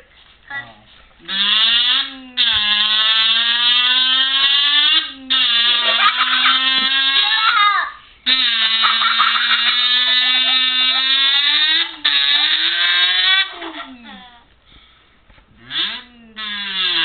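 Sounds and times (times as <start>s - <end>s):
kazoo buzzing: 1.2s - 14.5s, 15.6s - 17.0s.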